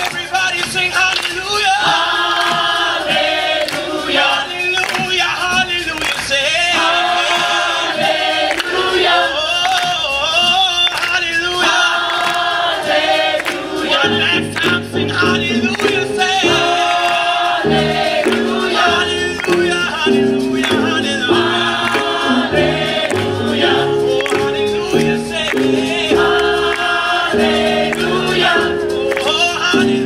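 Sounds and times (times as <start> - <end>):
gospel choir singing: 1.5 - 30.0.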